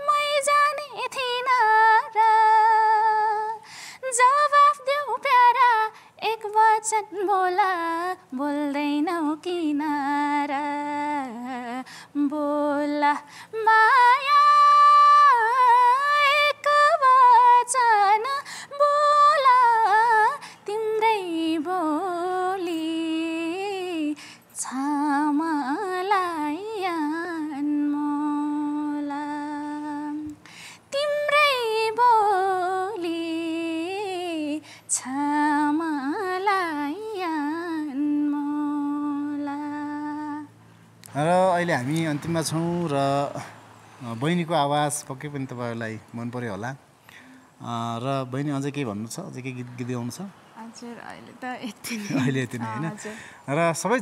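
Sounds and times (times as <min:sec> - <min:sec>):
woman singing unaccompanied: 0:00.0 - 0:40.6, 0:50.6 - 0:53.3.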